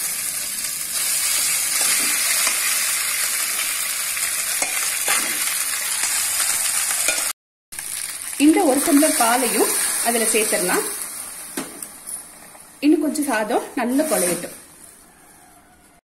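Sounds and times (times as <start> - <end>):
ghee sizzling in a pan: 0.0 - 11.6, 12.8 - 15.5.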